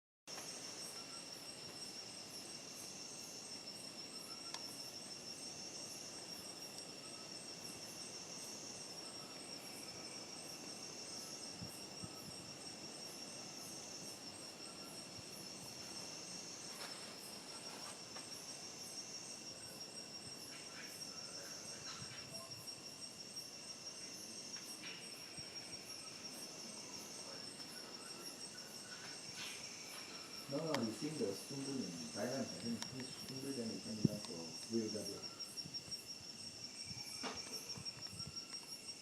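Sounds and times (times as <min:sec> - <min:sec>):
insects trilling: 0:00.3 - 0:39.0.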